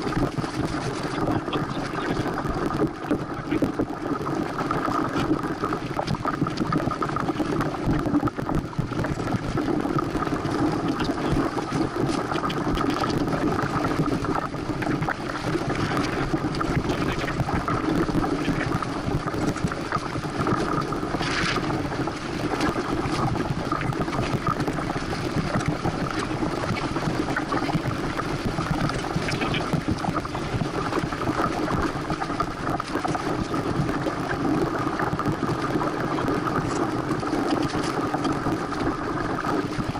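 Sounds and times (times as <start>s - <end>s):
water along boat hull: 0.0s - 39.9s
wind on microphone: 0.0s - 39.9s.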